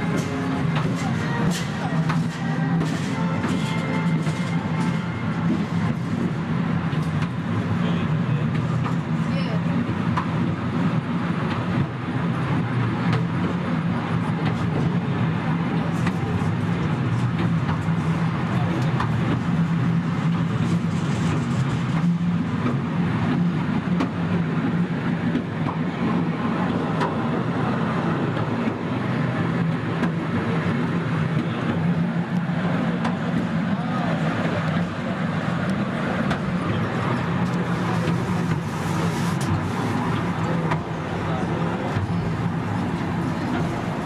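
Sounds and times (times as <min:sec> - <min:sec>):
railway carriage rumbling drone: 0:00.0 - 0:44.0.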